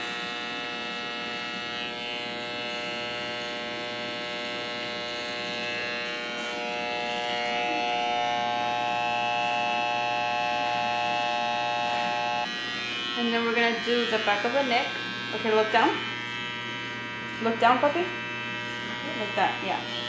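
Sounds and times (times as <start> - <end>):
electric hair clippers buzzing: 0.0 - 20.0.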